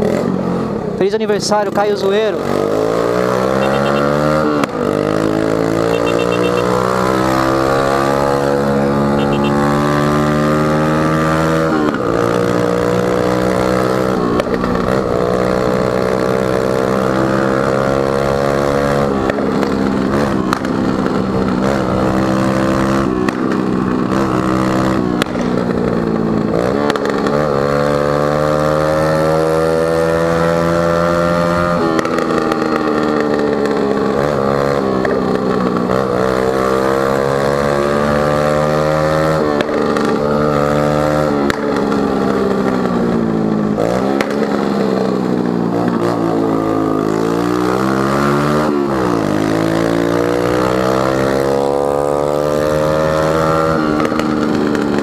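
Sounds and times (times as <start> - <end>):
scooter engine revving: 1.8 - 55.0.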